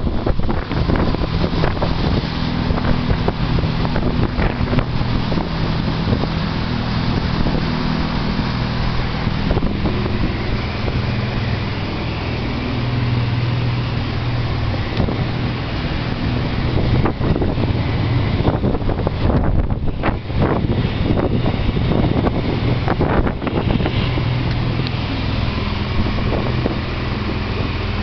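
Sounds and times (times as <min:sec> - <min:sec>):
boat motor running: 0:00.0 - 0:28.0
water splashing around hull: 0:00.0 - 0:28.0
wind rushing over microphone: 0:00.0 - 0:28.0.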